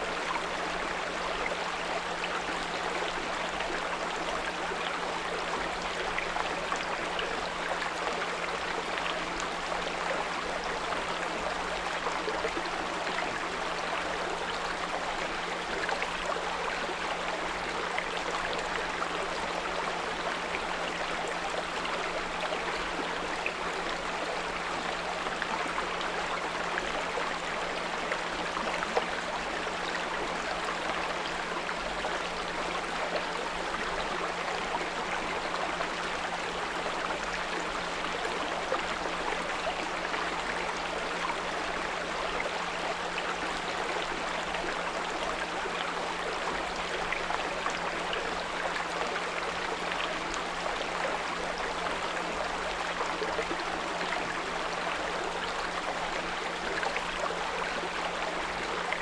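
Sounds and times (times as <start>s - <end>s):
brook babbling: 0.0s - 59.0s.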